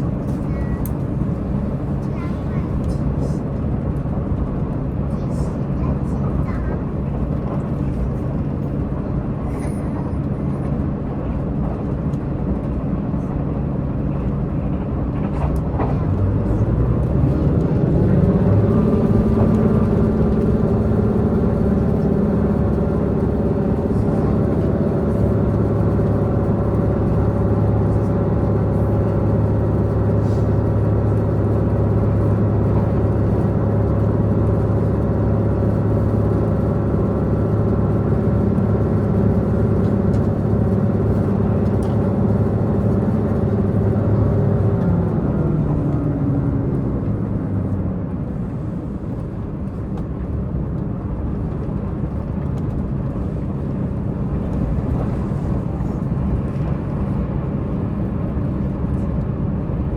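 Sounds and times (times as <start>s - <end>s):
diesel engine drone: 0.0s - 59.9s
train rumbling at speed: 0.0s - 59.9s.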